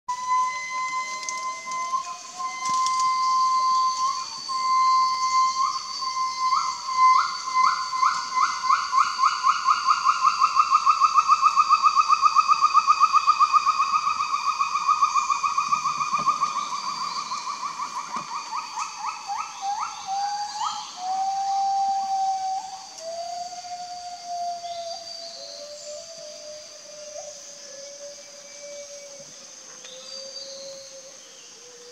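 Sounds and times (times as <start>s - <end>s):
gibbon whooping call: 0.1s - 29.3s.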